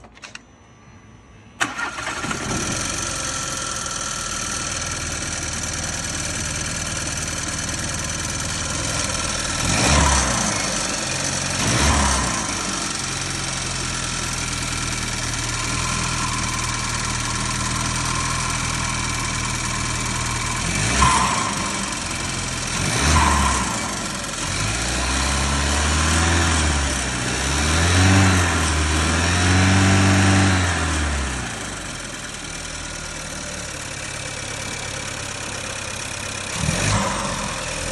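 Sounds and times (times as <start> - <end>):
engine revving: 1.6 - 33.4, 34.4 - 37.9
car engine starting and idling: 1.6 - 37.9
engine ticking rattle: 1.6 - 37.9.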